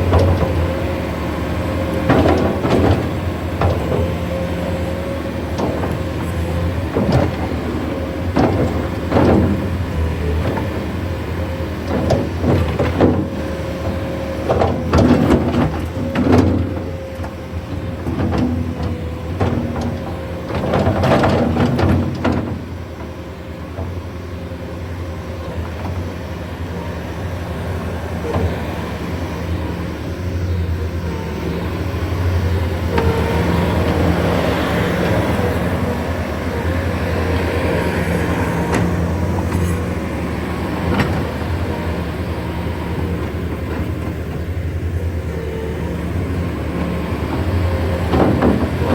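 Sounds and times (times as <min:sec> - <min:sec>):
skid steer diesel engine running: 0:00.0 - 0:48.9.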